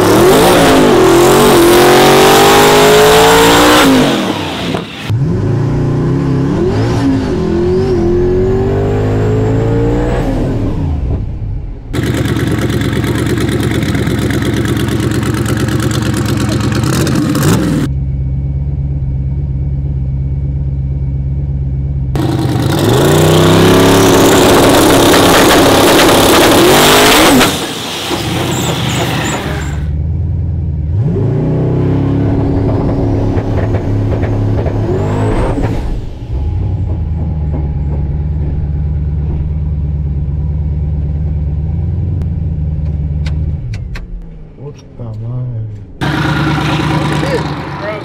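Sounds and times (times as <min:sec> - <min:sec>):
truck engine idling and revving: 0:00.0 - 0:48.0.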